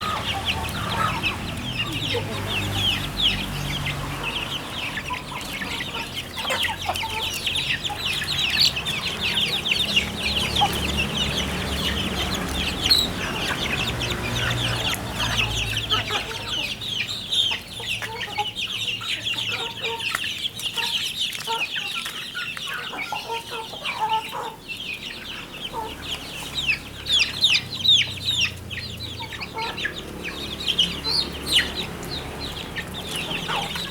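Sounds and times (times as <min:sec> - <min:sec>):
chickens calling: 0:00.0 - 0:33.9.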